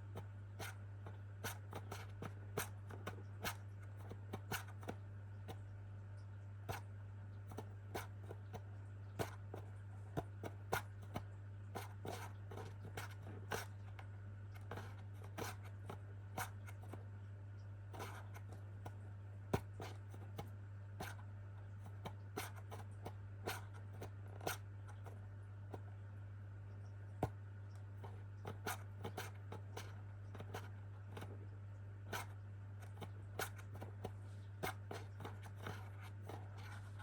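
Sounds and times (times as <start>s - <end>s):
sharp clicks and scratches: 0.0s - 5.7s, 6.7s - 26.0s, 26.8s - 37.0s
steady low hum: 0.0s - 37.0s.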